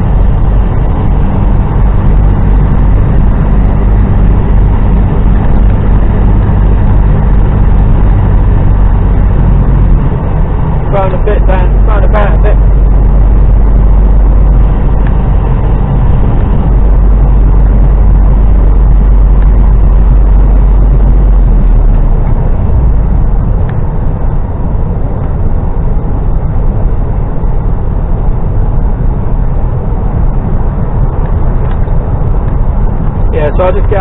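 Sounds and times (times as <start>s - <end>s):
lorry diesel engine: 0.0s - 34.0s
road noise: 0.0s - 34.0s.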